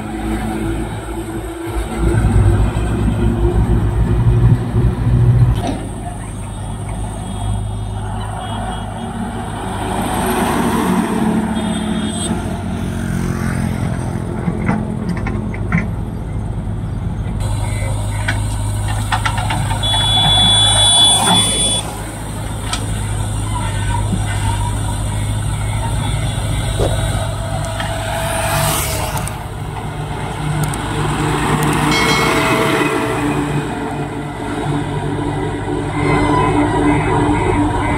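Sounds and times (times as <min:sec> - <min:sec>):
diesel truck engines running: 0:00.0 - 0:37.9.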